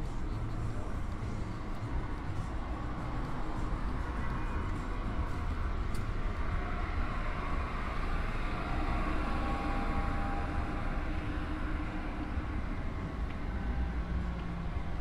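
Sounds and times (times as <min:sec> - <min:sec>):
city traffic rumble: 0:00.0 - 0:15.0
vehicle engine running nearby: 0:00.0 - 0:15.0.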